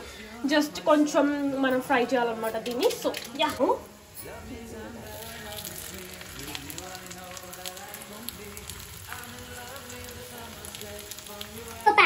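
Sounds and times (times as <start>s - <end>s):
flatbread sizzling in fat: 0.3s - 12.0s.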